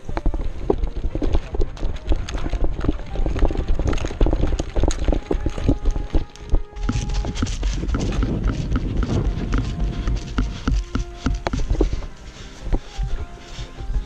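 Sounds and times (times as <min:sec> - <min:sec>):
gear jostling against microphone: 0:00.0 - 0:14.0
running footfalls: 0:00.0 - 0:14.0.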